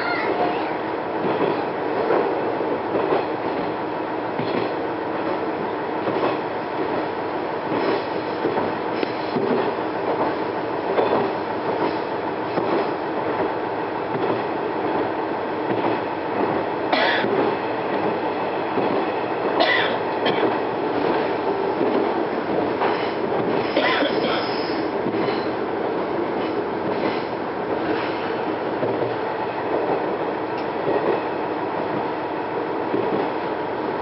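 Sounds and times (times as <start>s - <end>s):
railcar engine and wheels rumbling: 0.0s - 34.0s.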